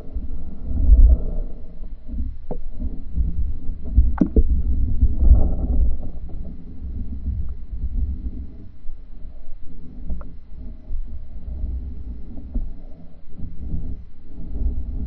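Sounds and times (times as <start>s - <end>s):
underwater water rumble: 0.0s - 15.0s.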